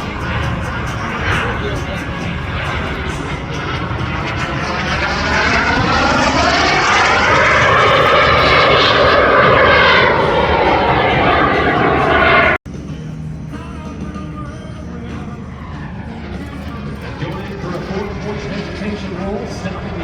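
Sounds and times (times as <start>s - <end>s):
airplane engine flying past: 0.0s - 20.0s.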